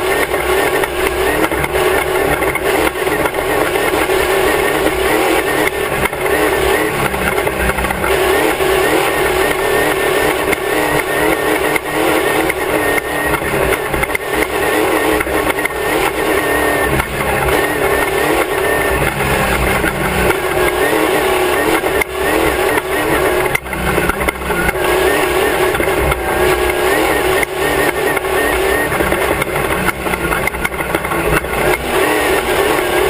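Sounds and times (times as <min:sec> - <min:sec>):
race car engine revving: 0:00.0 - 0:33.0.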